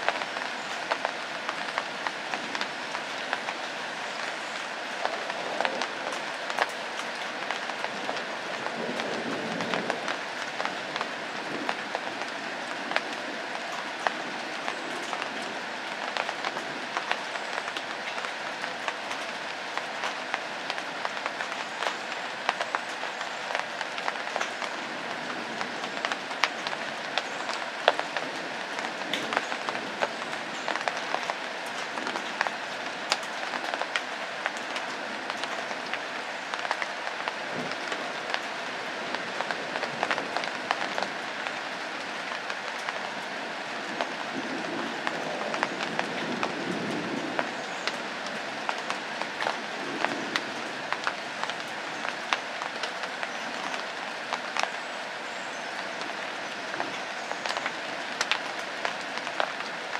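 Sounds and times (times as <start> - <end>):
raindrop hits: 0.0 - 59.9
steady rain: 0.0 - 59.9.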